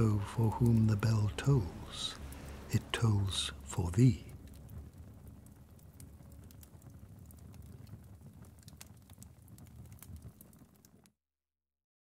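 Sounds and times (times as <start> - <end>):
low steady rumble: 0.0 - 10.2
wood fire crackling: 0.0 - 11.2.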